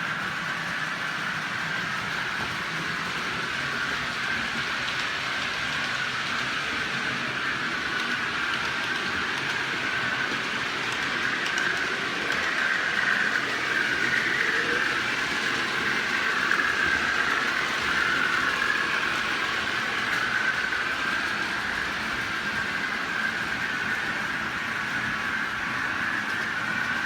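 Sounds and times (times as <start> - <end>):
model train motor whine: 0.0 - 27.0
wheel and rail noise: 0.0 - 27.0.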